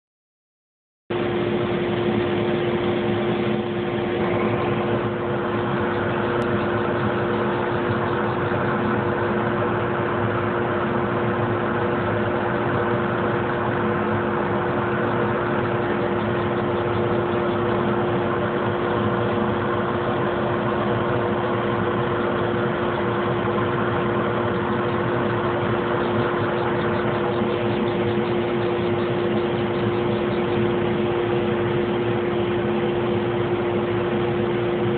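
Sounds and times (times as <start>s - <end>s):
laser engraver humming: 1.2s - 34.9s.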